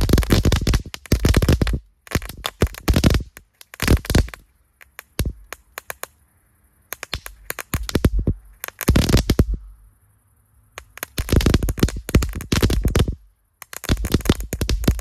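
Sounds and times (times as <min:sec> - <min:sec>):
firework cracks and pops: 0:00.0 - 0:06.2, 0:06.9 - 0:09.6, 0:10.8 - 0:15.0
faint firework hiss: 0:00.0 - 0:15.0.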